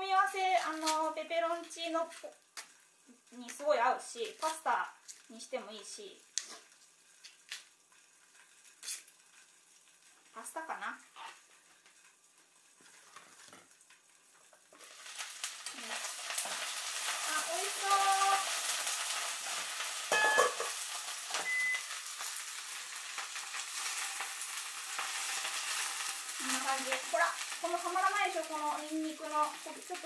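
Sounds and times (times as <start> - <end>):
greens sizzling in a frying pan: 0.0 - 30.0.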